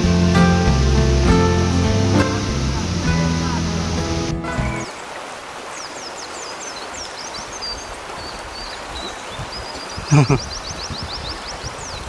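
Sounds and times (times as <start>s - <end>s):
birds chirping: 0.0s - 5.0s, 5.8s - 12.0s
flowing water: 0.0s - 12.0s.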